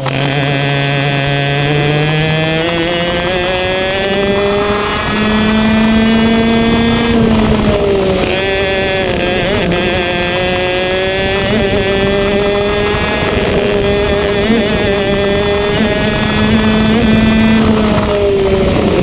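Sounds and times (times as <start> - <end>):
kart engine revving: 0.0 - 19.0.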